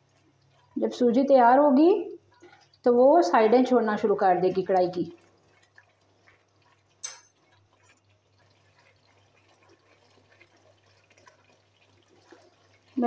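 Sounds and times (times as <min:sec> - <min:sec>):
wet squelchy stirring: 0:00.0 - 0:13.0.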